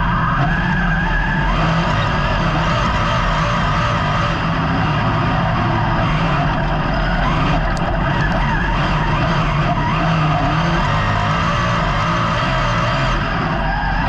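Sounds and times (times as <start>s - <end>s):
race car engine revving high: 0.0s - 14.0s.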